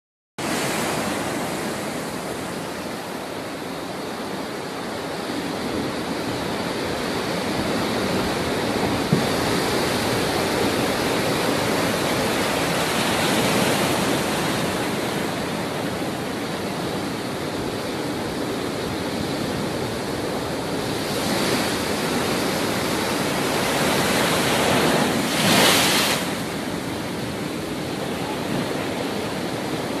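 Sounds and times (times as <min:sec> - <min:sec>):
waves crashing against pier: 0:00.4 - 0:30.0
wind: 0:00.4 - 0:30.0.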